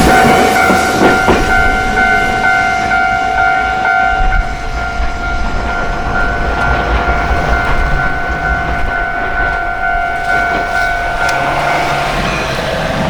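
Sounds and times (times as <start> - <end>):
electric train rumble: 0.0 - 13.0
level-crossing alarm ringing: 0.0 - 13.0.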